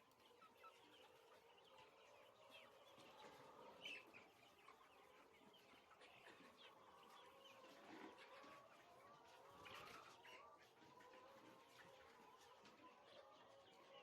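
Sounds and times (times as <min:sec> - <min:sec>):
chickens chirping and clucking: 0:00.0 - 0:14.0.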